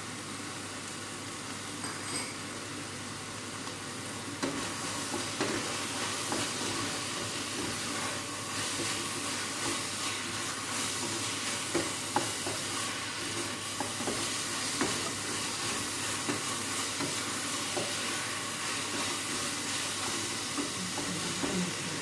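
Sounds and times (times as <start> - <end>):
sauce sizzling in a pan: 0.0 - 22.0.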